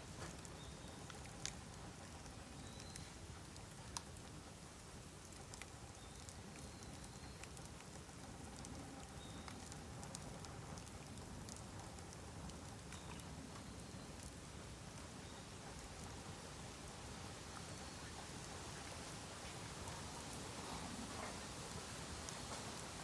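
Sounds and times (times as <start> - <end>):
bamboo fire crackling with pops: 0.0 - 20.6
steady fire hiss: 0.0 - 23.0.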